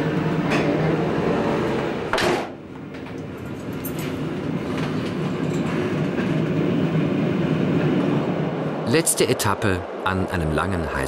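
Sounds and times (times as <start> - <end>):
diesel railcar running: 0.0 - 11.0.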